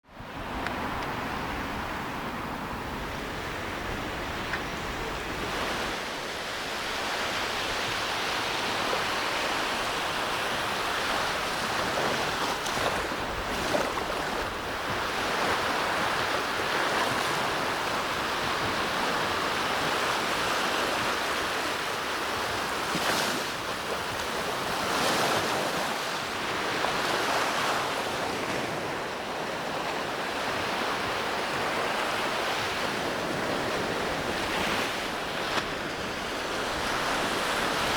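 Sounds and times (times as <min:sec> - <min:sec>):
small waves washing on sand: 0:00.2 - 0:37.9.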